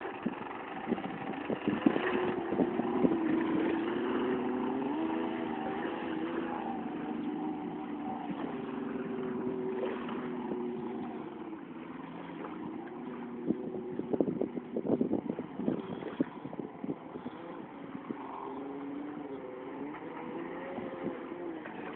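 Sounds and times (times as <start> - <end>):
jet ski engine: 0.0 - 21.9.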